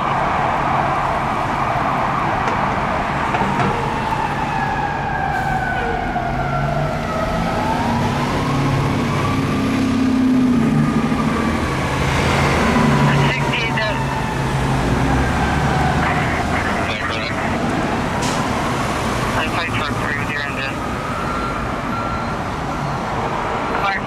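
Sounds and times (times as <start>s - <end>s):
fire truck siren wailing: 0.0s - 24.0s.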